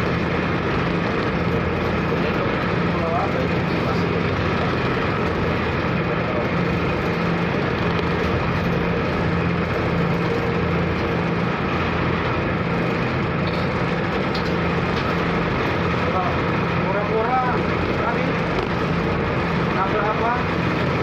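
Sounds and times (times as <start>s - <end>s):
rush of noise: 0.0s - 21.0s
ship engines droning: 0.0s - 21.0s.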